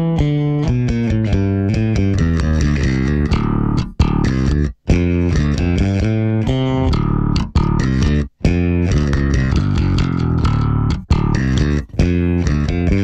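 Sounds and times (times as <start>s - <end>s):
plucked bass guitar notes: 0.0s - 13.0s.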